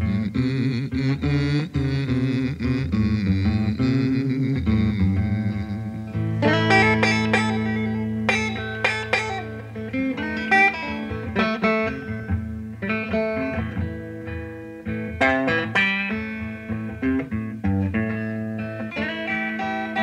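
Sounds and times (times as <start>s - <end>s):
electric blues guitar: 0.0s - 20.0s.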